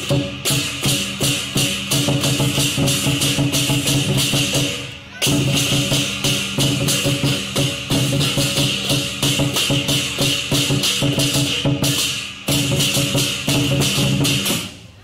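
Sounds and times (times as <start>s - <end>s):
big drum beaten fast: 0.0s - 14.7s
cymbal clashes: 0.0s - 14.9s.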